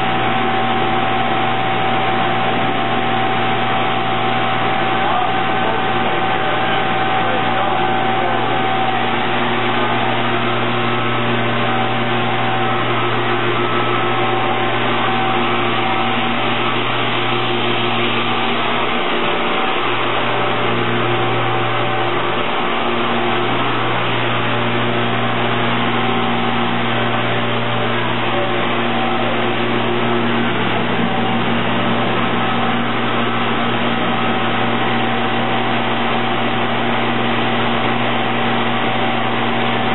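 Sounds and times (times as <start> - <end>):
machinery drone: 0.0 - 39.9.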